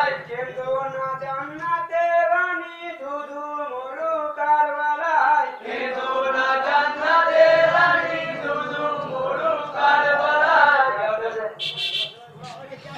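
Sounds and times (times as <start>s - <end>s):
men chanting a lament: 0.0s - 11.6s.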